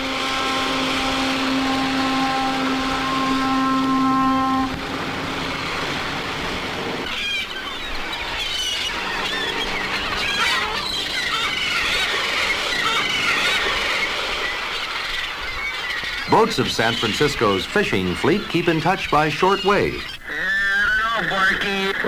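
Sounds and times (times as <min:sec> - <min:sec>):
seagulls calling: 0:00.0 - 0:22.0.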